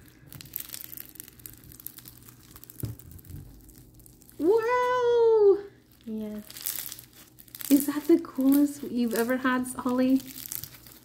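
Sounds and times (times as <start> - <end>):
slime crackling: 0.0 - 11.0.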